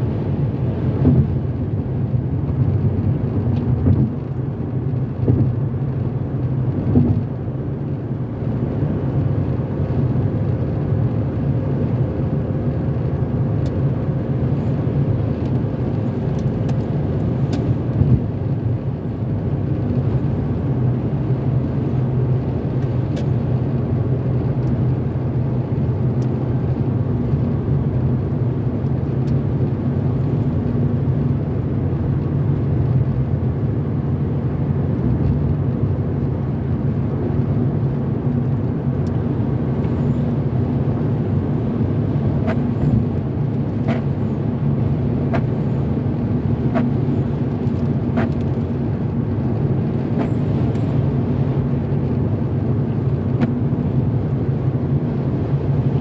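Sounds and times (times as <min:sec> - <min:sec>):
car road noise on wet pavement: 0:00.0 - 0:56.0.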